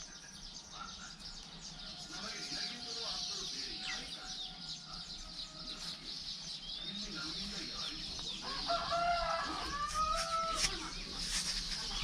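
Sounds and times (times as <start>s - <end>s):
small birds chirping: 0.0s - 12.0s
chickens calling: 0.8s - 12.0s.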